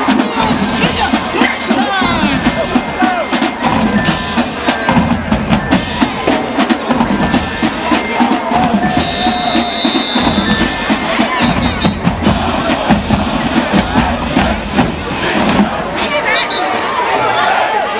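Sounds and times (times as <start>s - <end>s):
marching drum cadence: 0.0s - 16.7s.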